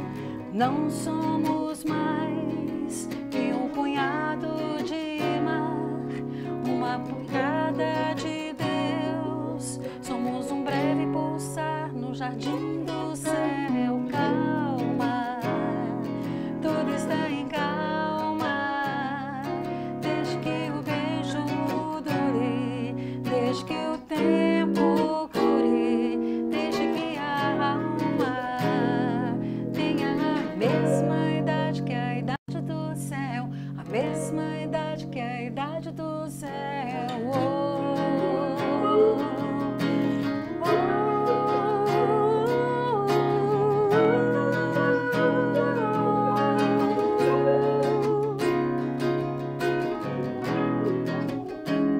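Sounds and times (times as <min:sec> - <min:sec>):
acoustic guitar: 0:00.0 - 0:51.9
electric guitar: 0:00.0 - 0:51.9
woman singing with vibrato: 0:00.0 - 0:51.9.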